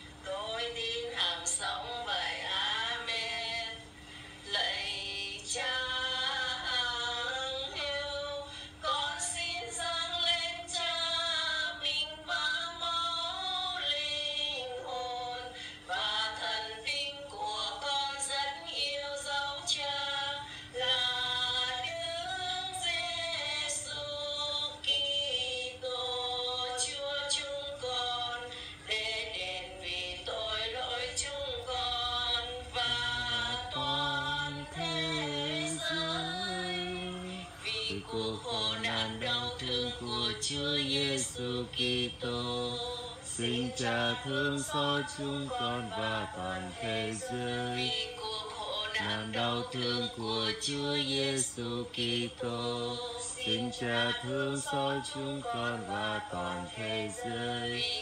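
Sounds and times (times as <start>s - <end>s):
faint steady hum: 0.0s - 58.0s
woman singing hymn: 0.0s - 58.0s.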